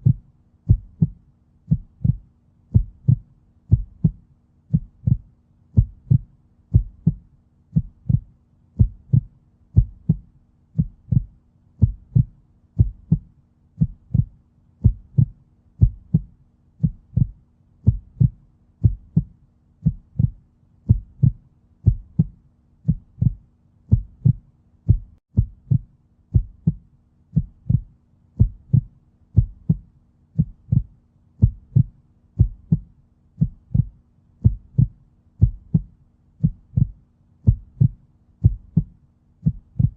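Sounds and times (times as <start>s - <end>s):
heartbeat: 0.0s - 39.9s.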